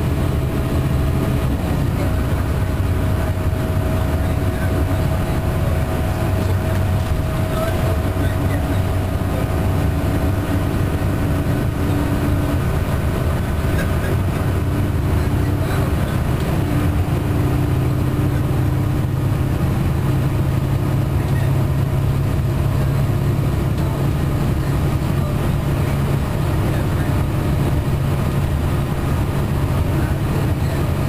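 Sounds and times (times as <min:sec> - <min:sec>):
diesel engine low drone: 0:00.0 - 0:31.0
tyre and road noise: 0:00.0 - 0:31.0.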